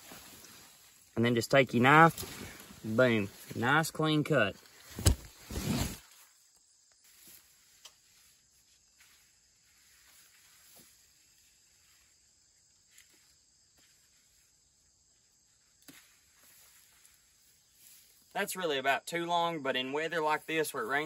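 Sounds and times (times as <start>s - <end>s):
soft clicks and rustles of plants: 0.0s - 18.5s.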